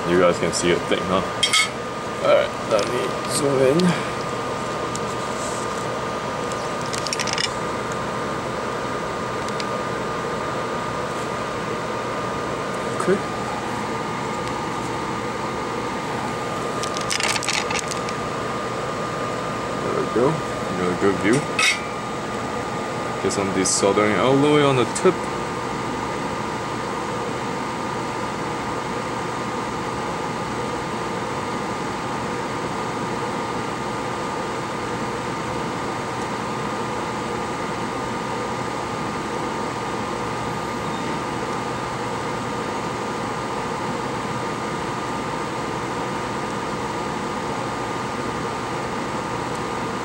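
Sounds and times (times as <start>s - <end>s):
electric fan whirring: 0.0s - 50.0s.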